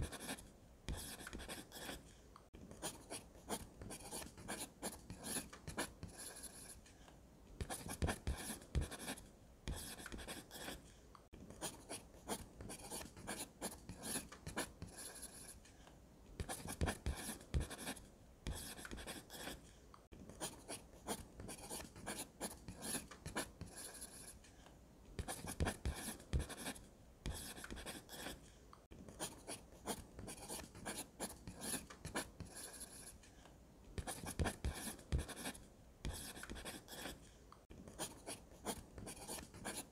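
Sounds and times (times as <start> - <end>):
pencil scratching on paper: 0.0 - 6.9, 7.6 - 10.9, 11.5 - 15.7, 16.4 - 19.7, 20.3 - 24.4, 25.2 - 28.5, 29.1 - 33.2, 34.0 - 37.3, 37.9 - 39.9.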